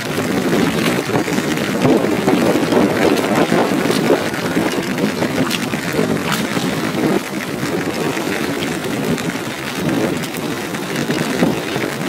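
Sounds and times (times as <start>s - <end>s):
rain gear rustling: 0.0s - 12.0s.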